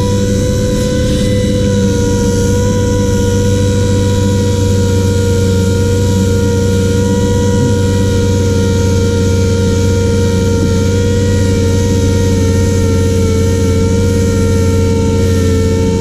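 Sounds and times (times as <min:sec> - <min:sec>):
machine hum with high whine: 0:00.0 - 0:16.0.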